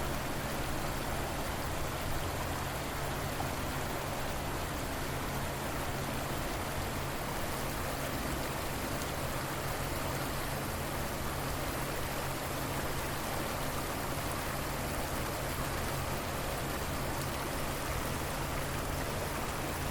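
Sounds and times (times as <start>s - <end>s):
river water flowing: 0.0s - 19.9s.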